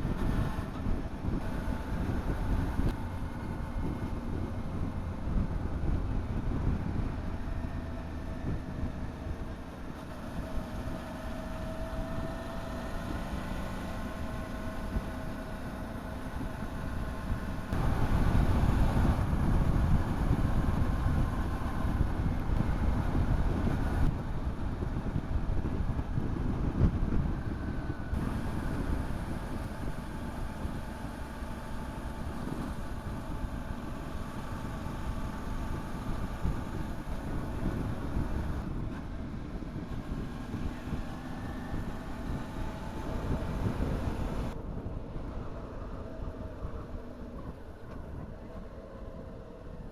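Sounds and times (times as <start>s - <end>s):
motorcycle engine running: 0.0s - 49.9s
wind rumble on microphone: 0.0s - 49.9s.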